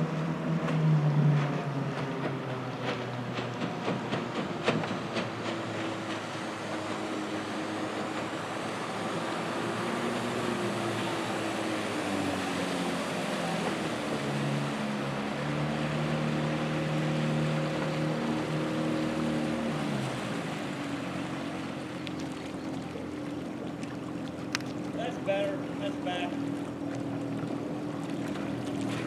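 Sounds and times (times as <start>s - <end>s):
outboard motor running: 0.0s - 29.0s
water wash: 0.0s - 29.0s.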